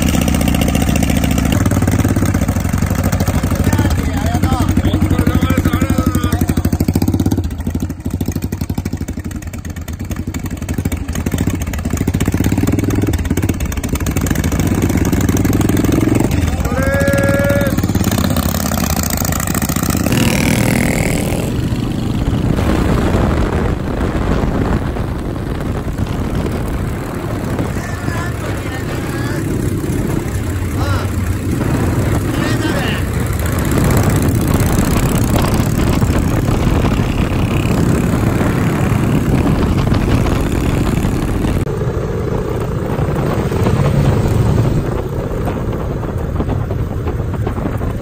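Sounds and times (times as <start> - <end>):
motorcycle engines running: 0.0 - 48.0.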